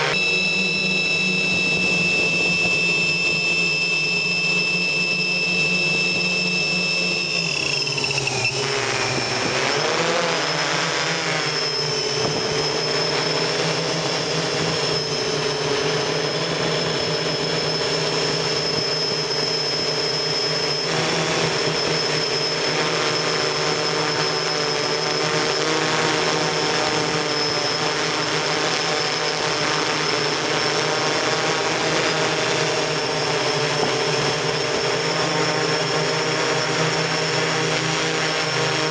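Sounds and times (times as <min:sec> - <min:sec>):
drone motors whining: 0:00.0 - 0:38.9
propeller wash: 0:00.0 - 0:38.9.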